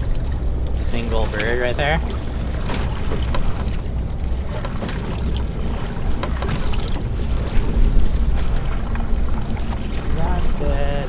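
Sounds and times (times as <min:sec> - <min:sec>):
boat engine rumbling: 0:00.0 - 0:11.0
knocks and splashes: 0:00.0 - 0:11.0
water noise: 0:00.0 - 0:11.0
wind: 0:00.0 - 0:11.0.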